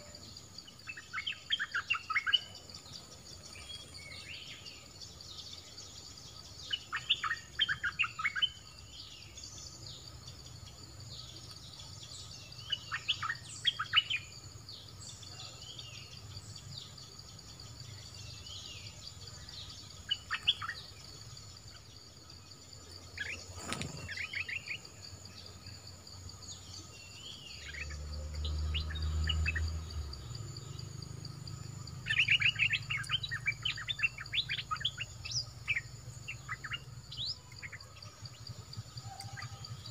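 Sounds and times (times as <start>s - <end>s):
bird chirping: 0.0s - 39.9s
high insect drone: 0.0s - 39.9s.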